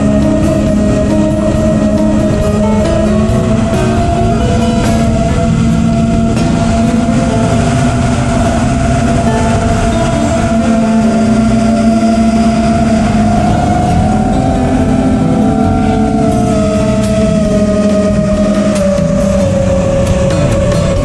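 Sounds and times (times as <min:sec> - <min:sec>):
drone motors whining: 0:00.0 - 0:21.0
music: 0:00.0 - 0:21.0.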